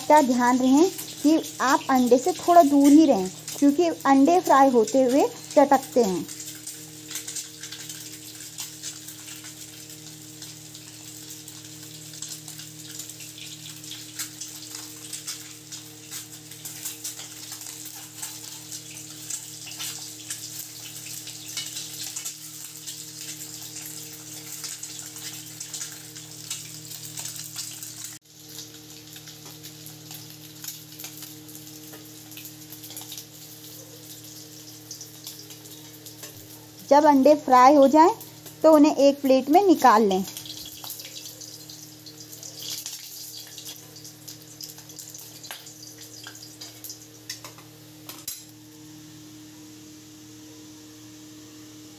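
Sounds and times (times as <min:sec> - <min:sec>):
oil popping and crackling: 0:00.0 - 0:48.4
eggs sizzling in hot oil: 0:00.0 - 0:51.9.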